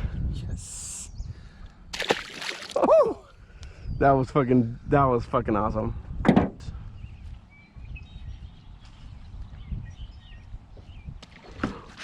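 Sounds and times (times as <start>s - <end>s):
low wind rumble: 0.0s - 2.0s, 2.8s - 11.9s
faint birds chirping: 0.4s - 1.9s, 2.9s - 12.0s.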